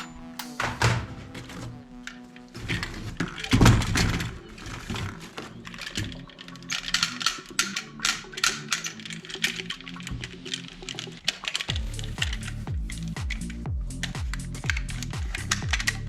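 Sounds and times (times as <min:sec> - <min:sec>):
background music: 0:00.0 - 0:16.0
plastic clicks and clatters: 0:00.0 - 0:16.0.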